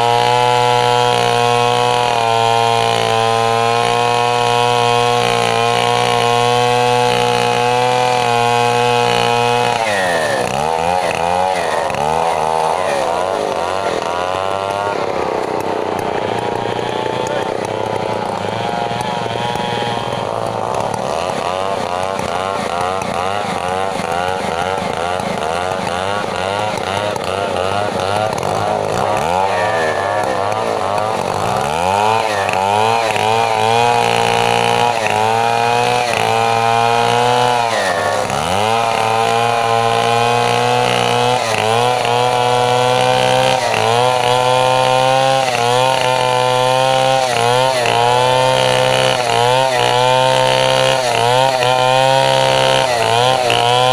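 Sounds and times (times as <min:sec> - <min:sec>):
chainsaw cutting log: 0:00.0 - 0:53.9.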